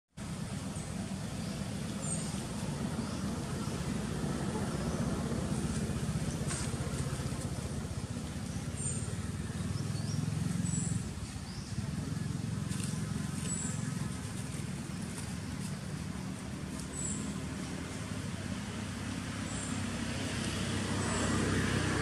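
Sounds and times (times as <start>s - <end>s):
deep outdoor rumble: 0.2s - 22.0s.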